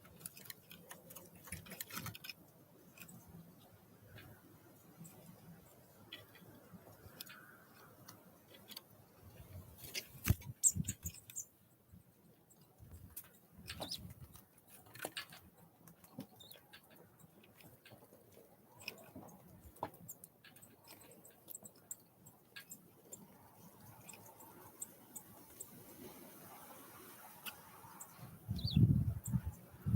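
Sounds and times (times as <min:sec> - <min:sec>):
bird bills pecking at seed: 0:00.0 - 0:11.6, 0:12.4 - 0:29.9.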